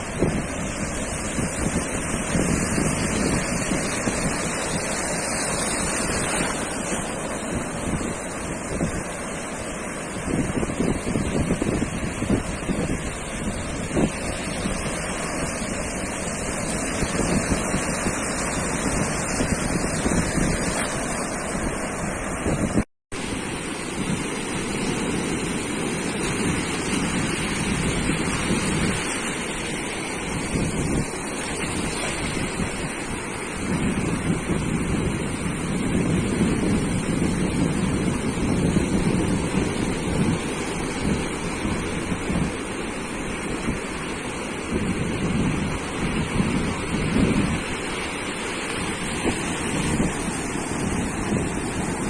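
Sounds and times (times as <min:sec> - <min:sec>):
ocean surf on beach: 0:00.0 - 0:52.0
wind buffeting microphone: 0:00.0 - 0:52.0.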